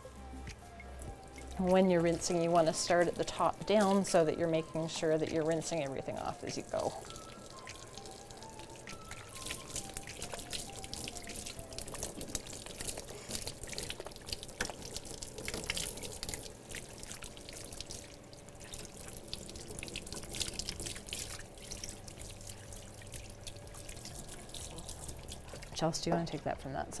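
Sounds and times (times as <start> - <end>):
shower sprayer rinsing dog: 0.3 - 26.1.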